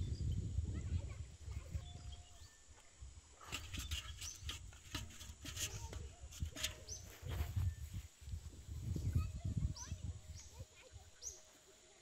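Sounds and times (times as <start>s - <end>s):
wind rumbling on microphone: 0.0s - 11.3s.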